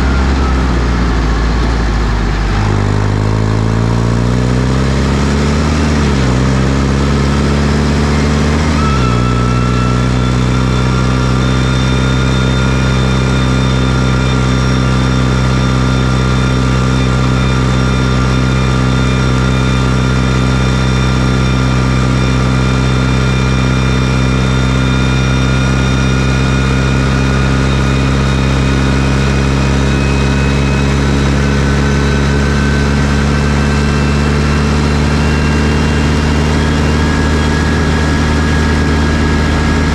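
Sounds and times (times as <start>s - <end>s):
tractor diesel engine running: 0.0s - 39.9s
thin high whine: 7.3s - 39.9s.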